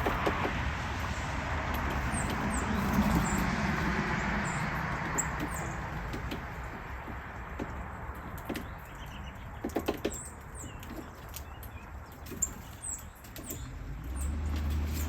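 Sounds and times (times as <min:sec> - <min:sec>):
small birds chirping: 0:01.0 - 0:15.0.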